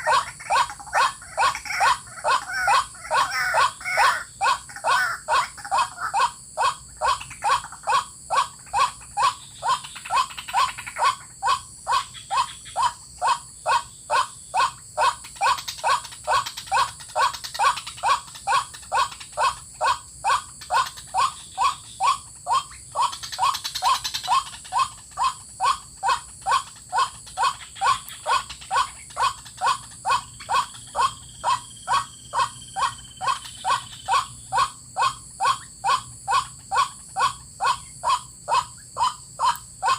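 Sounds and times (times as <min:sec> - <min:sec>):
waterhen croaking calls: 0:00.0 - 0:39.9.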